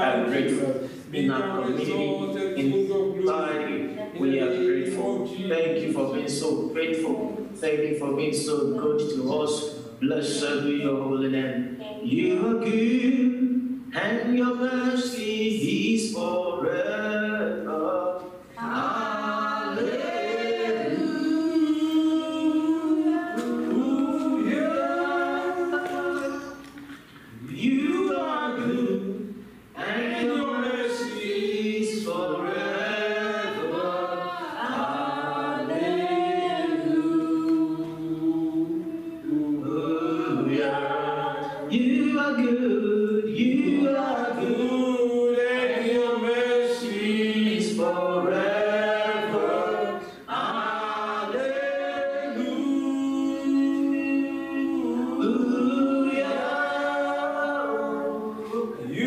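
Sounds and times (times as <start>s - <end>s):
group singing a cappella: 0.0s - 7.6s, 11.8s - 59.0s.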